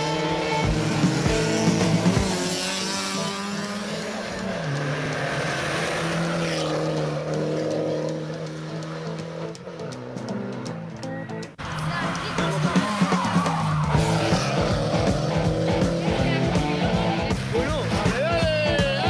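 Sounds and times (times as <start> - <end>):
rally car engine at full throttle: 0.0 - 19.0.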